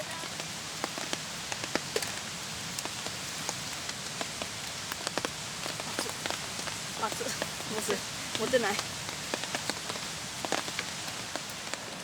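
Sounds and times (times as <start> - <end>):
sharp raindrop impacts: 0.0 - 12.0
steady rain hiss: 0.0 - 12.0.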